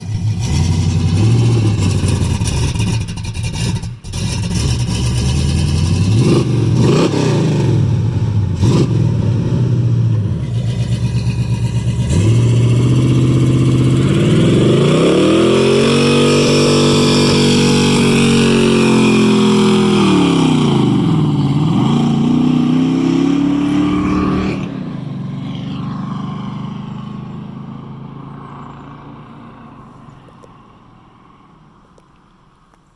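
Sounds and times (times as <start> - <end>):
car engine revving hard: 0.0 - 30.0.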